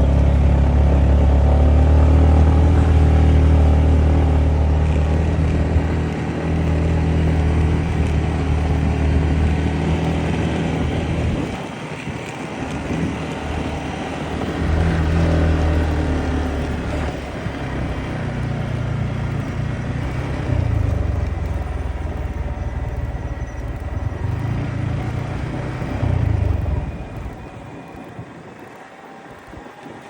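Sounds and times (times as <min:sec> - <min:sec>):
motorcycle engine: 0:00.0 - 0:30.0
road noise: 0:00.0 - 0:30.0
rushing wind: 0:00.0 - 0:30.0.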